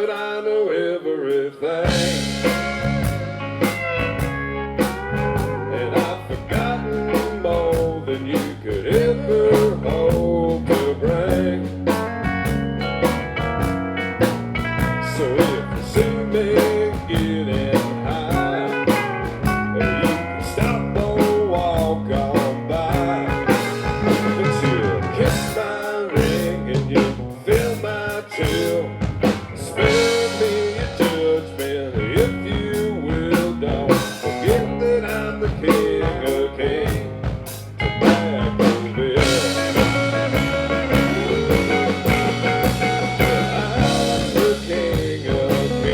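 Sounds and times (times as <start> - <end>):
bass: 1.8 - 45.9
lead guitar line: 1.8 - 45.9
steady drum beat: 1.9 - 45.9.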